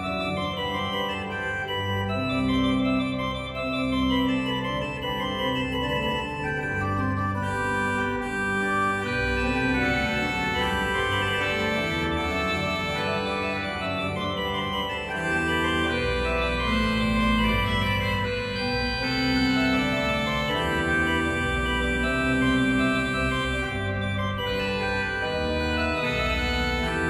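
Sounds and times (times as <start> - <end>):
organ music with sustained chords: 0.0 - 27.0.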